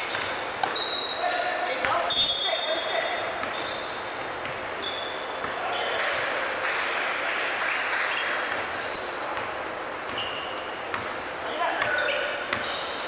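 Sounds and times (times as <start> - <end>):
sneakers squeaking: 0.0 - 13.0.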